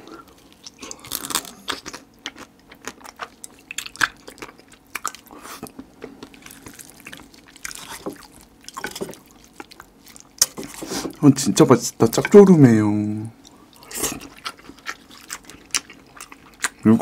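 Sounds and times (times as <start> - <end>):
chewing and crunching crab: 0.0 - 12.6, 13.3 - 17.0.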